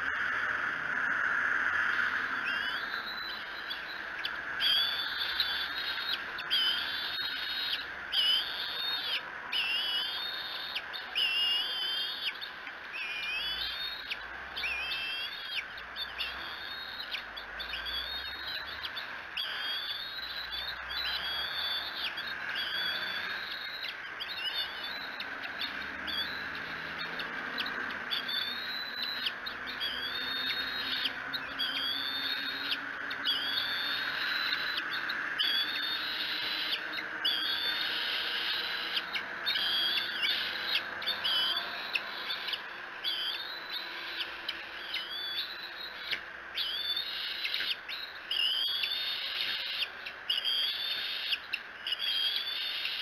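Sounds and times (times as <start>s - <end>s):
young eagles whistled begging calls: 0.0s - 53.0s.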